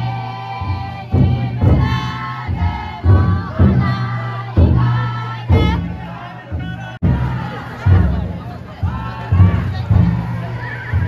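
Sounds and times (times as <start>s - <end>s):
big drum struck heavily: 0.0s - 11.0s
crowd chanting in long calls: 0.0s - 11.0s.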